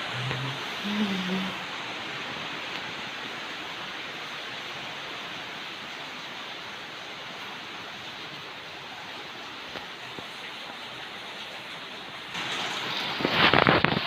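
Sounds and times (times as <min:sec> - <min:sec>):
rain falling steadily: 0:00.0 - 0:14.0.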